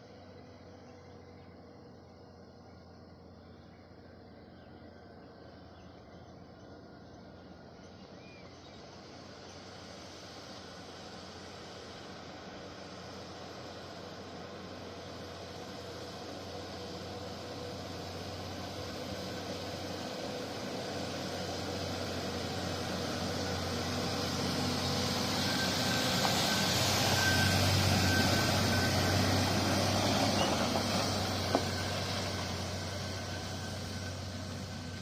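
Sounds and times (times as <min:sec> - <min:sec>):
truck driving past: 0:00.0 - 0:35.0.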